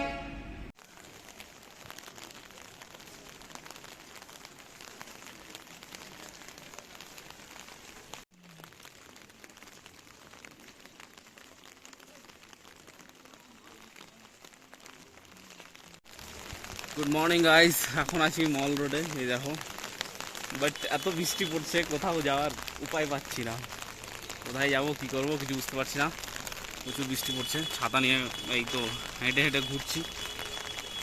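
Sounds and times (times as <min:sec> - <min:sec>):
rain falling: 0:00.7 - 0:31.0.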